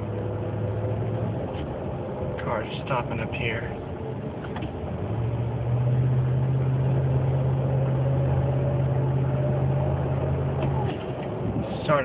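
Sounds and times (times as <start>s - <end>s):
drivetrain whine: 0.0s - 12.0s
truck engine drone: 0.0s - 12.0s.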